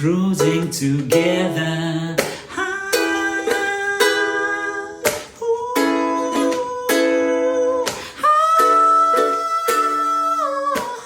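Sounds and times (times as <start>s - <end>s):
ukulele strummed in slow chords: 0.0s - 11.0s.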